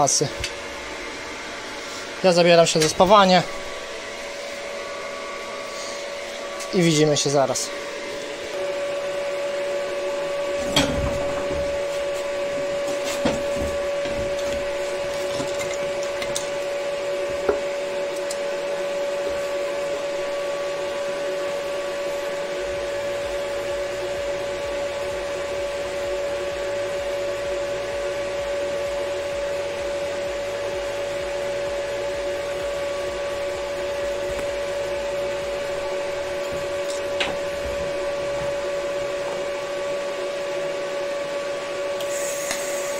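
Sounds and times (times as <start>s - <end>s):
steady machine hum: 0.0s - 42.9s.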